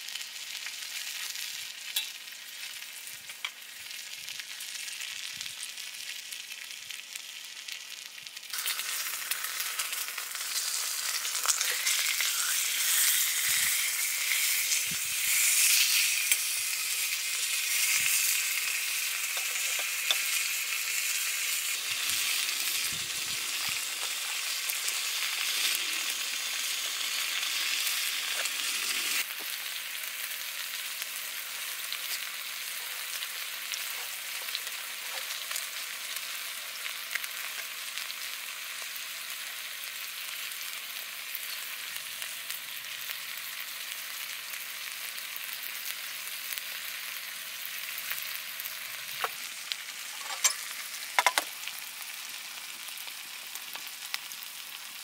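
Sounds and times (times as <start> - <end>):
food sizzling in a pan: 0.0 - 55.0
small pops of frying: 0.0 - 55.0.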